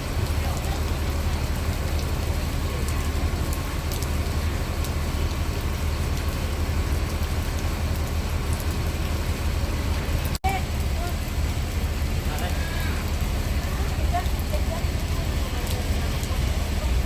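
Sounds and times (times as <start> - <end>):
heavy rain: 0.0 - 17.0
low steady rumble: 0.0 - 17.0.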